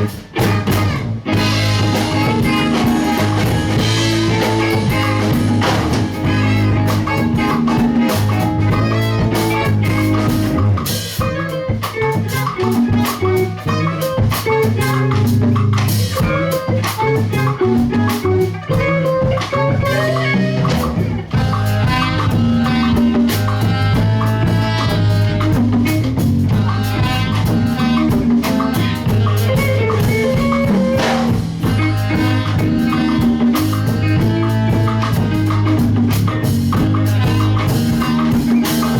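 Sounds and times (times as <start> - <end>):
bass and drum kit: 0.0 - 38.9
electric guitar: 0.0 - 38.9.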